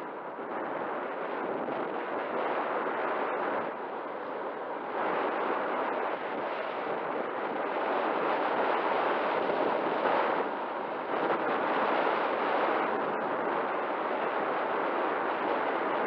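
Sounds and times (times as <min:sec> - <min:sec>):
airflow rushing over microphone: 0:00.0 - 0:16.0.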